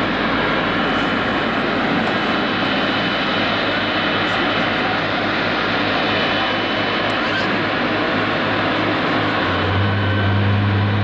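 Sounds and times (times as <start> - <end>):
high whine: 0.0 - 11.0
jet engines rushing: 0.0 - 11.0.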